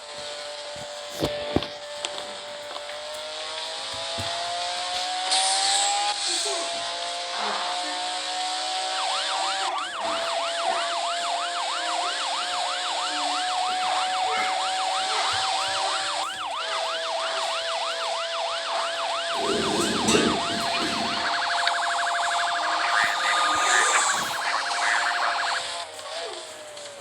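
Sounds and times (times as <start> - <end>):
police siren yelping: 3.0 - 27.0.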